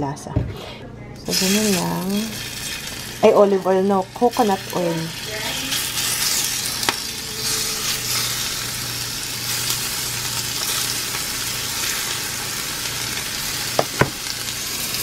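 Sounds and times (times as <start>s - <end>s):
chicken sizzling in hot oil: 1.3s - 15.0s.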